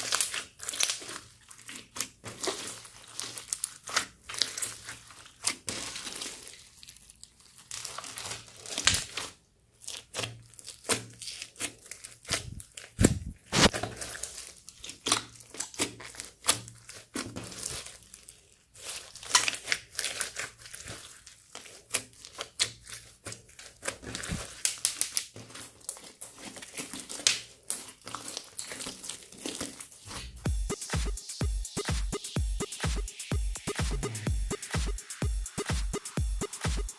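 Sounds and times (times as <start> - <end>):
slime crackling and popping: 0.0 - 30.4.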